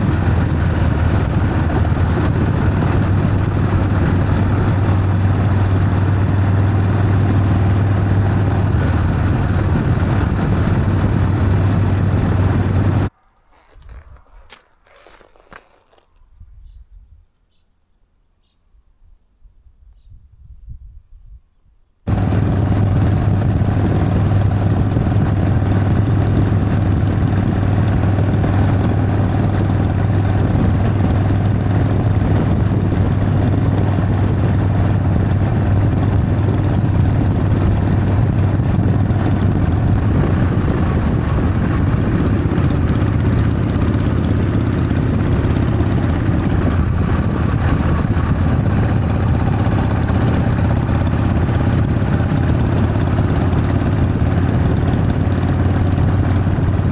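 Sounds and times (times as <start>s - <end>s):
motorcycle engine droning: 0.0s - 16.0s, 22.1s - 56.9s.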